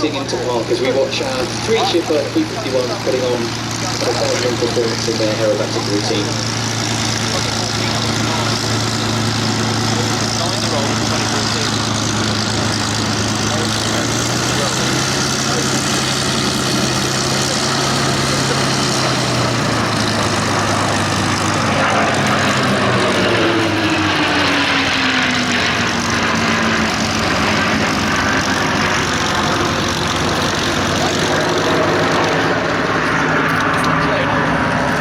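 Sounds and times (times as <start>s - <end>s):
aircraft passing by: 0.0s - 35.0s
propeller plane engines: 0.0s - 35.0s.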